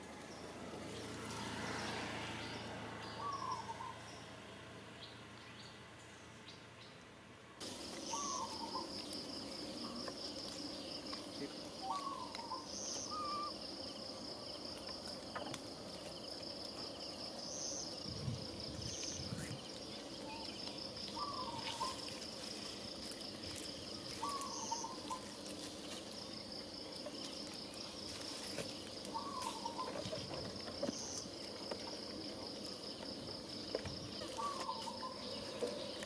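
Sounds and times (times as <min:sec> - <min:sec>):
insects chorus: 0:00.0 - 0:07.0, 0:07.6 - 0:36.0.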